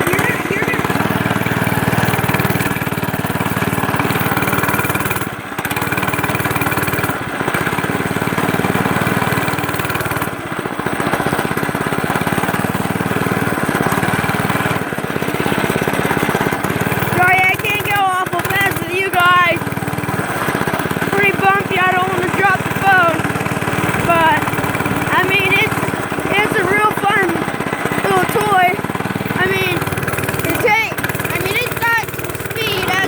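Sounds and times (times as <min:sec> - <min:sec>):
dirt bike engine under throttle: 0:00.0 - 0:33.0.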